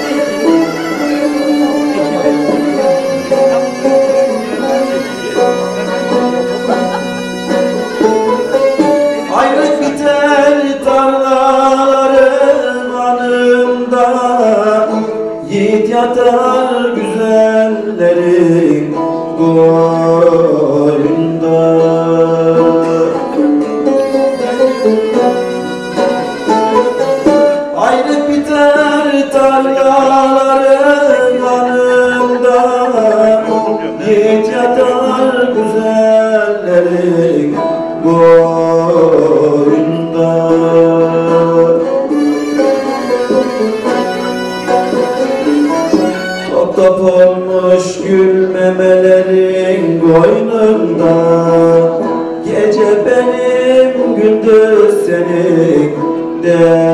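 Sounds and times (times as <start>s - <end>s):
long-necked lute folk melody: 0.0s - 56.9s
man singing: 0.0s - 56.9s.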